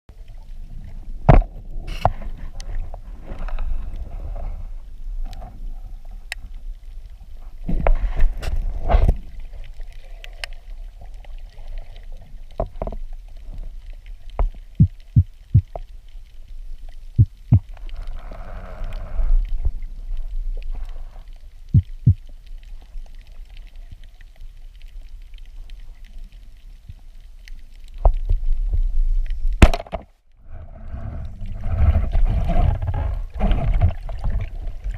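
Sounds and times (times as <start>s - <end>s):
underwater rumble of moving water: 0.1s - 34.9s.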